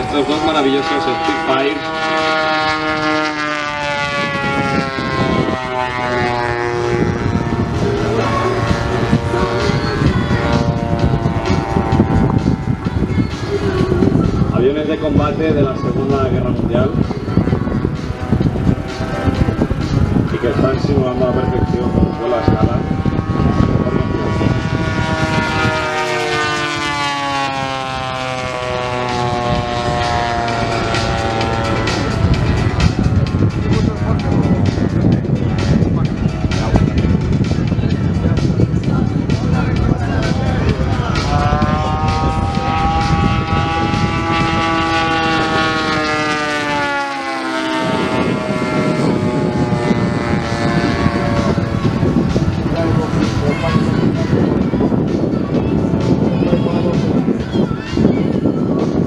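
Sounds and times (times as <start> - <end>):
model aircraft engines: 0.0 - 59.0
rough rushing noise: 0.0 - 59.0.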